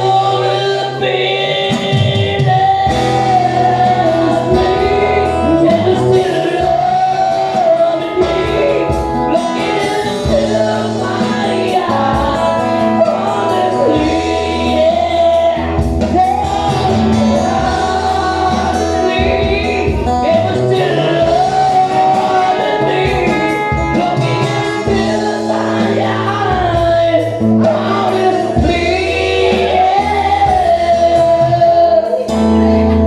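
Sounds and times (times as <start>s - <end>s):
live band playing rock ballad: 0.0s - 33.0s
person singing: 0.0s - 33.0s.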